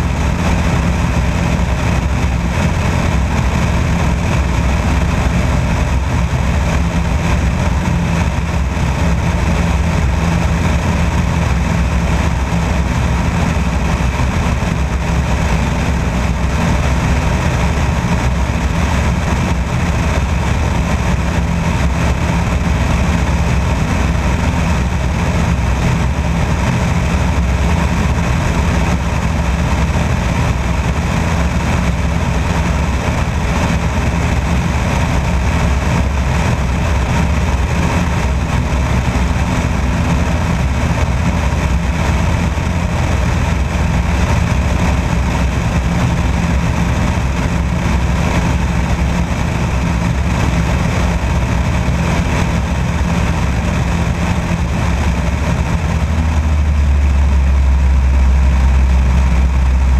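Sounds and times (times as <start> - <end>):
airplane engine droning: 0.0 - 59.9
wind rushing over airframe: 0.0 - 59.9.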